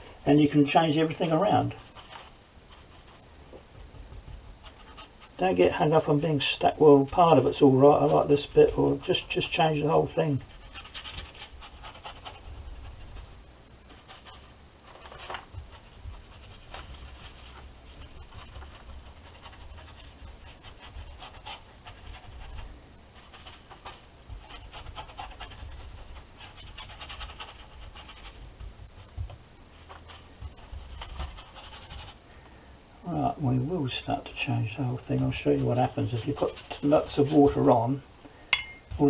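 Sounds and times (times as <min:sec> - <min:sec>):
paintbrush scratching on board: 0:01.0 - 0:03.2, 0:04.2 - 0:32.2, 0:35.2 - 0:37.7.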